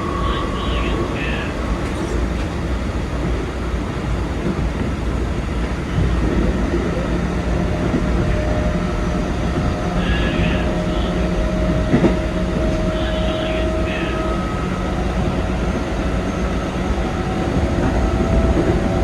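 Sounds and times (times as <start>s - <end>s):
train running gear rumble: 0.0s - 19.0s.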